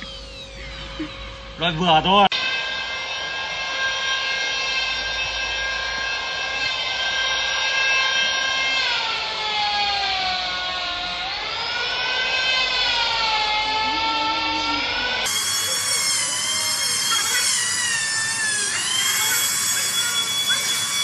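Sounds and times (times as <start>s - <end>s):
power tool motor whining: 0.0s - 21.0s.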